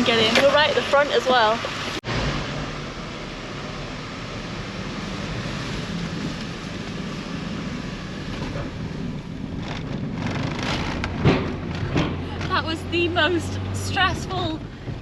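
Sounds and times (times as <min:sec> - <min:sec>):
vehicle engine rumble from inside: 0:00.0 - 0:15.0.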